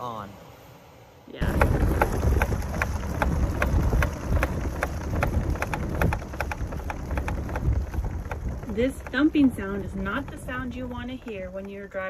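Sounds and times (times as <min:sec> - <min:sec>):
low road rumble: 0:01.3 - 0:12.0
tire chains knocking: 0:01.4 - 0:12.0.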